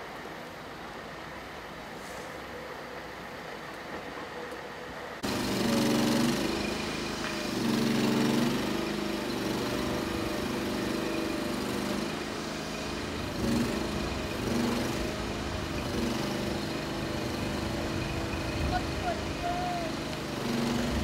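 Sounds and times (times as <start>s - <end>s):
engine running low hum: 0.0s - 21.0s.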